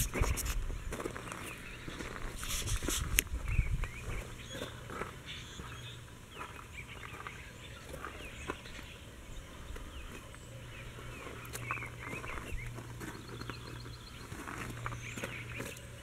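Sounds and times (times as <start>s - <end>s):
birds chirping: 0.0s - 16.0s
low steady hum: 0.0s - 16.0s.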